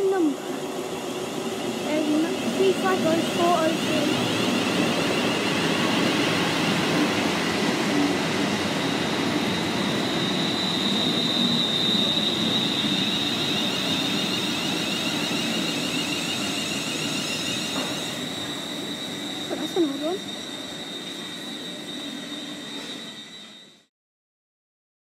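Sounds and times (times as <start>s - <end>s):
steady high whine: 0.0s - 23.9s
train rumbling past: 0.0s - 23.9s.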